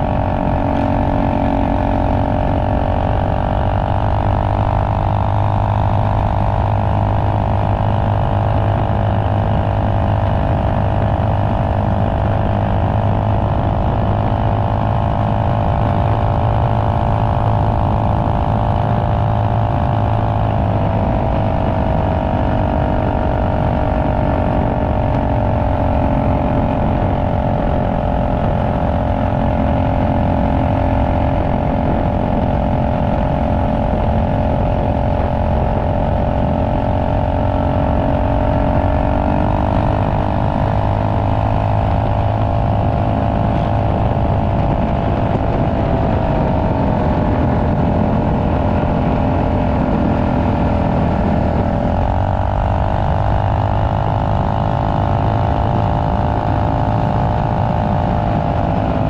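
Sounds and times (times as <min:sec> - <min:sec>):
minibike engine running: 0:00.0 - 0:59.0.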